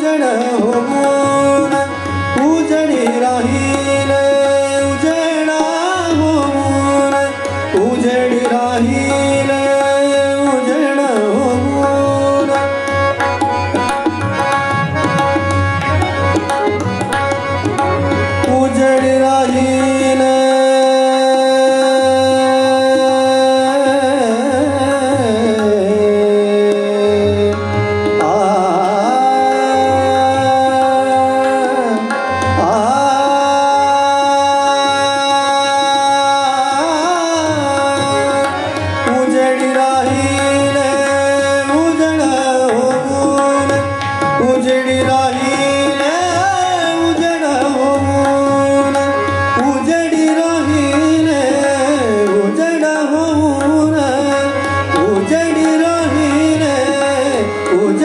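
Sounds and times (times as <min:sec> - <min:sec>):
man singing ornamented lines: 0:00.0 - 0:12.8, 0:18.4 - 0:58.0
harmonium: 0:00.0 - 0:58.0
tabla rhythm: 0:00.0 - 0:58.0
tanpura drone: 0:00.0 - 0:58.0.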